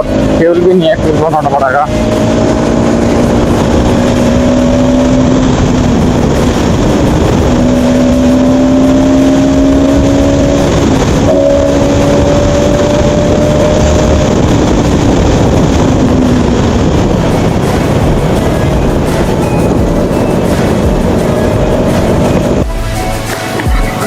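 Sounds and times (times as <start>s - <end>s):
motorcycle engine hum: 0.0s - 24.0s
wind rush on microphone: 0.0s - 24.0s.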